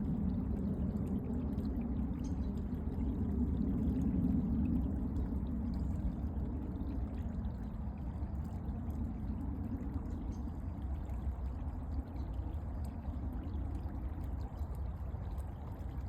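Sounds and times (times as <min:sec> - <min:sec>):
creek flowing: 0:00.0 - 0:16.0.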